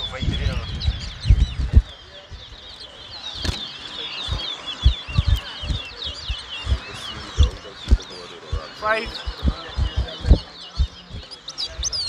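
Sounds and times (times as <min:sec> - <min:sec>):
short low thumps: 0:00.0 - 0:02.6, 0:04.2 - 0:12.0
finch singing high whistled notes: 0:00.0 - 0:12.0.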